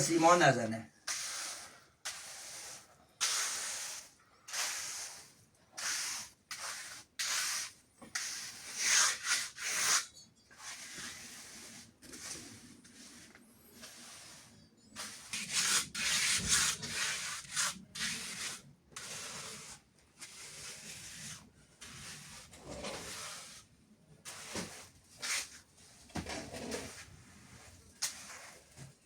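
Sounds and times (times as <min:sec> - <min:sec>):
trowel scraping wet cement: 0:01.1 - 0:10.0, 0:10.6 - 0:23.7, 0:26.5 - 0:28.9.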